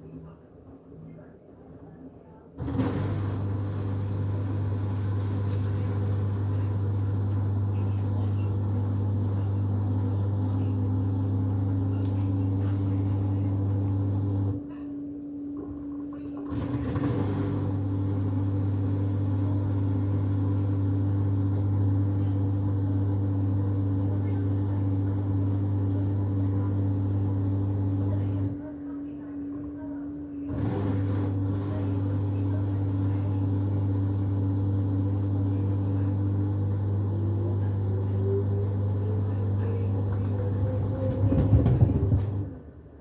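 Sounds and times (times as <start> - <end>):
washing machine motor hum: 2.6 - 43.0.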